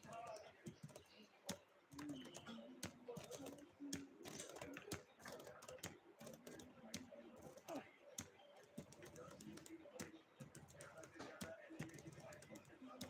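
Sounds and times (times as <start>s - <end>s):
faint background voices: 0.0s - 13.0s.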